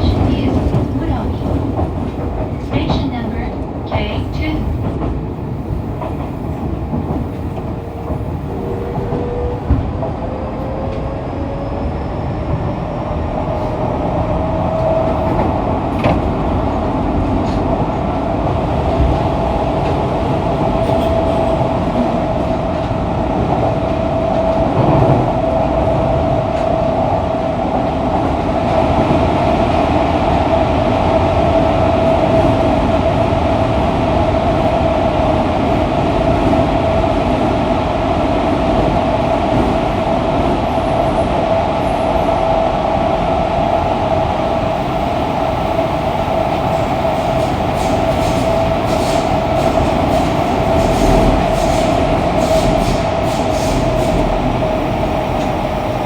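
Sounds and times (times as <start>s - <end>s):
wheels rumbling on track: 0.0s - 56.0s.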